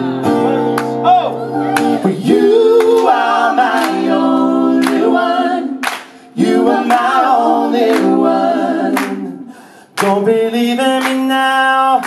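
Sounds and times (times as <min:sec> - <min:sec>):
wordless vocal harmonies: 0:00.0 - 0:12.0.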